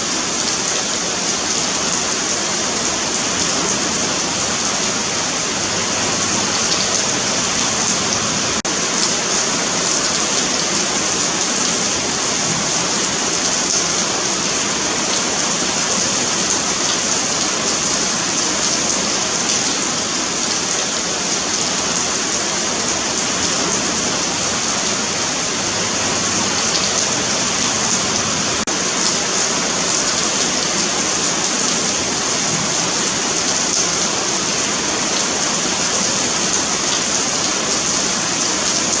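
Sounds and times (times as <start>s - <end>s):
rain on pavement: 0.0s - 39.0s.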